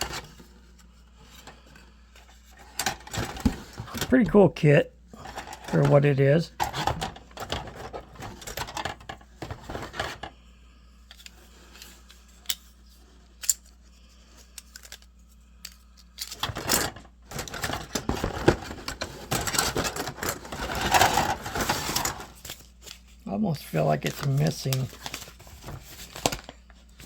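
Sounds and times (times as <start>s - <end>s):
plastic parts clicking and clattering: 0.0s - 4.4s, 5.1s - 10.3s, 11.1s - 23.2s, 23.8s - 27.0s.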